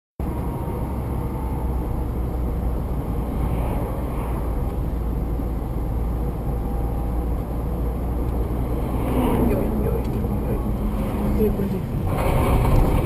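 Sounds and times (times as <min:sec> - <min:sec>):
tyres on road: 0:00.2 - 0:13.0
vehicle engine rumble: 0:00.2 - 0:13.0.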